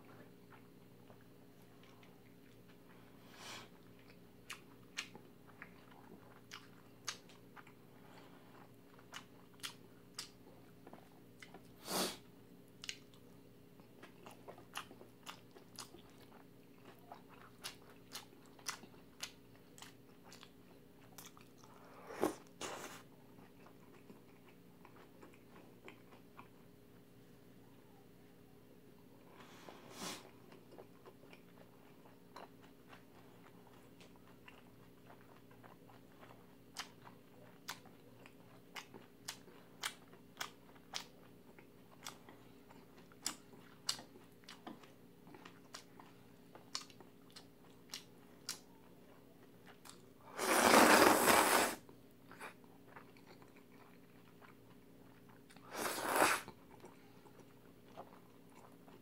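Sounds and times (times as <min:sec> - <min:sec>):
faint steady hum: 0:00.0 - 0:59.0
crunchy chewing: 0:00.1 - 0:11.8, 0:12.7 - 0:26.8, 0:29.4 - 0:59.0.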